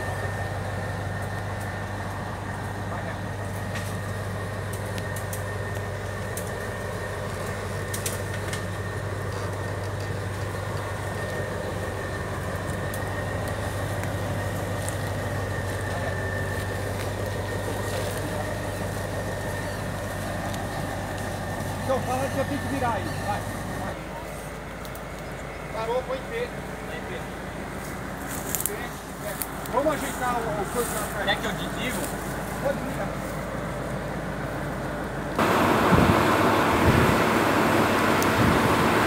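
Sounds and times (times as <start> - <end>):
tank engine droning: 0.0 - 39.0
thin steady whine: 0.0 - 39.0.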